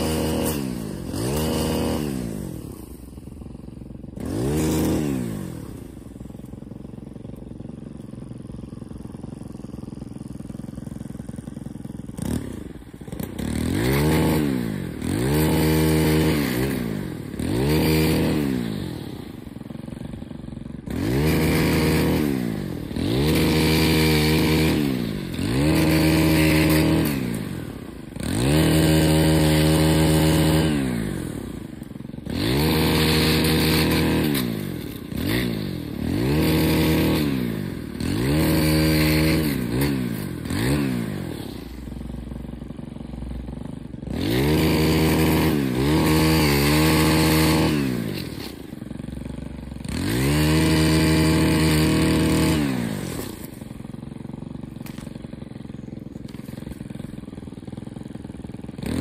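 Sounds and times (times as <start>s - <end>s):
pole saw engine revving and idling: 0.0s - 59.0s.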